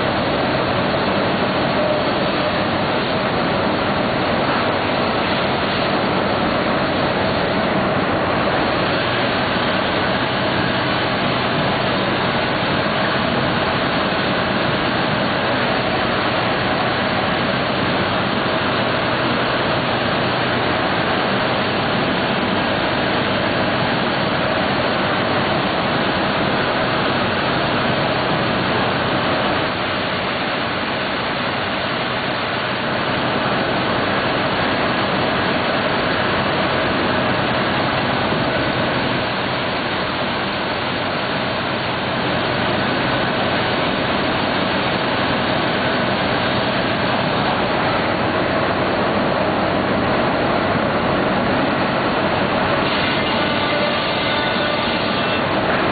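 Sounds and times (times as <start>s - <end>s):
machine running with rushing noise: 0.0s - 55.9s.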